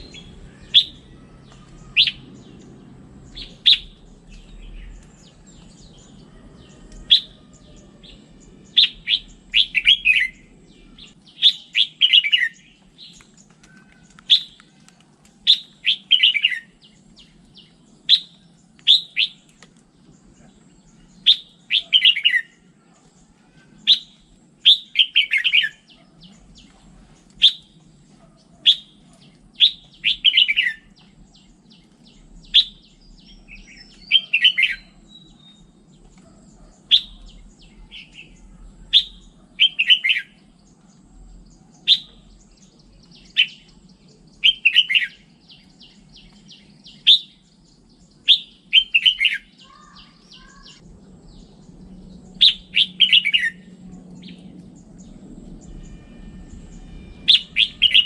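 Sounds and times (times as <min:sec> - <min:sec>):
bird singing: 0:00.0 - 0:58.0.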